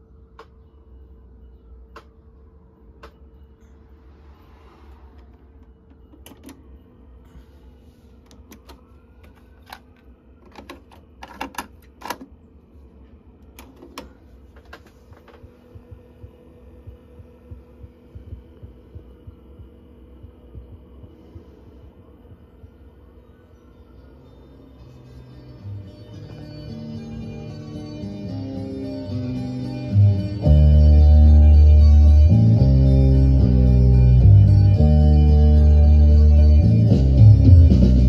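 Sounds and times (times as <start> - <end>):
low hum with faint throb: 0.0 - 38.0.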